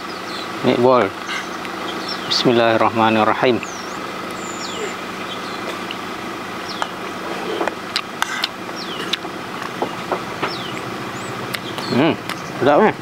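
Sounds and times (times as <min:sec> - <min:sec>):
high falling chirps: 0:00.0 - 0:12.6
low machine hum: 0:00.0 - 0:13.0.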